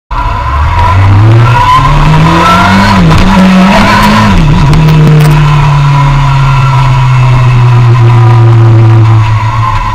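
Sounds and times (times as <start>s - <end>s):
motorcycle engine revving: 0.1s - 9.9s.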